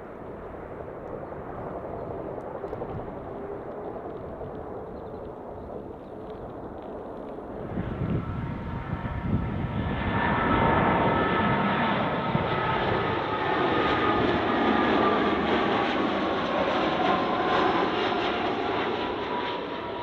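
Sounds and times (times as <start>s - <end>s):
jet engine rumble and whine: 0.0s - 20.0s.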